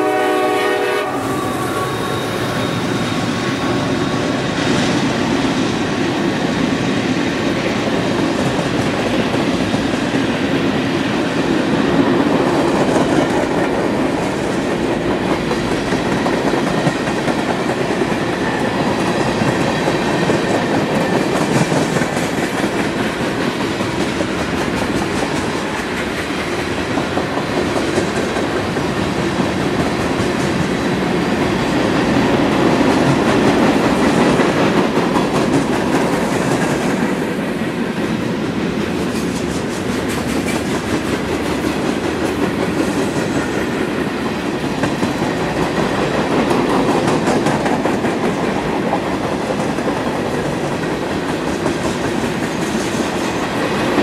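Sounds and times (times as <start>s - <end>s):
freight train cars rolling: 0.0s - 54.0s.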